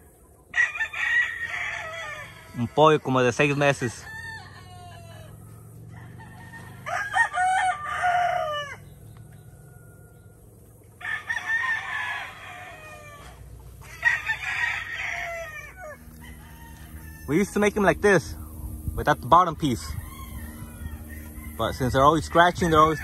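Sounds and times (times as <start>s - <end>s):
roosters crowing: 0.0s - 23.0s.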